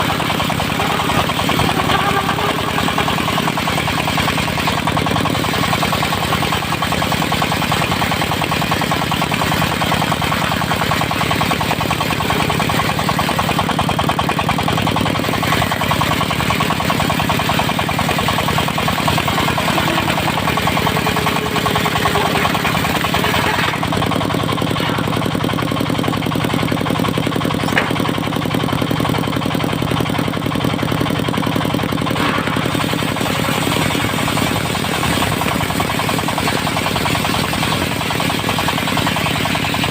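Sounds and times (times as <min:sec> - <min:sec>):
circular saw cutting wood: 0:00.0 - 0:26.6, 0:27.4 - 0:28.7, 0:32.0 - 0:39.9
diesel engine running: 0:00.0 - 0:39.9.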